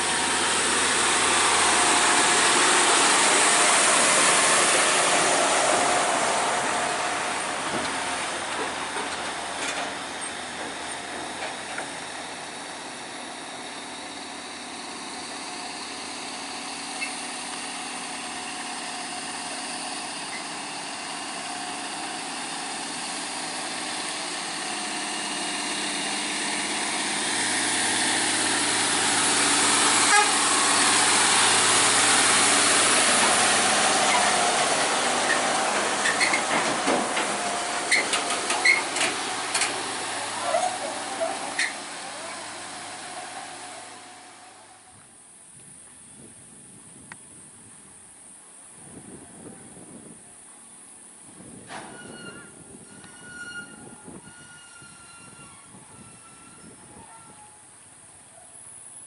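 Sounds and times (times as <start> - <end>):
diesel truck engines labouring: 0.0 - 45.4, 48.3 - 59.0.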